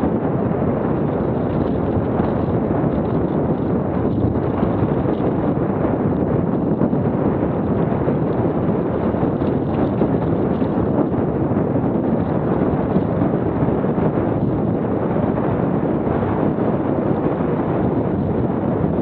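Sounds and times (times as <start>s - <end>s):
bike rumble and rattle: 0.0s - 19.0s
wind buffeting microphone: 0.0s - 19.0s.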